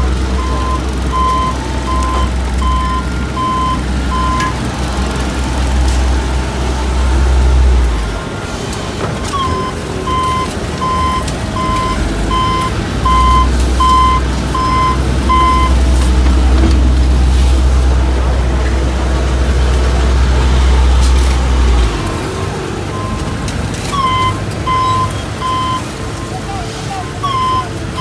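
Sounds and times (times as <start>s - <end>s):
reversing alarm beeping: 0.0s - 16.3s, 21.6s - 28.0s
heavy engines rumbling: 0.0s - 28.0s.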